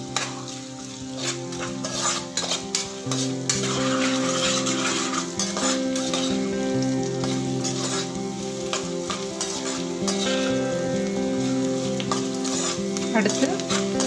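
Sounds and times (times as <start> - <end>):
metal spoon scraping a pan: 0.0 - 6.6, 7.2 - 10.5, 11.7 - 14.0
onions sizzling in hot oil: 0.0 - 14.0
soft background music: 0.0 - 14.0.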